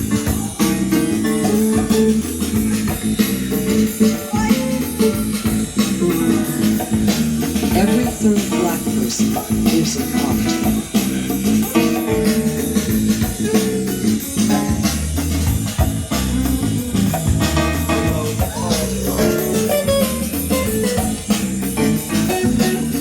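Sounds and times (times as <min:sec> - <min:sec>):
bass line: 0:00.0 - 0:23.0
drums: 0:00.0 - 0:23.0
jazz guitar: 0:00.0 - 0:23.0.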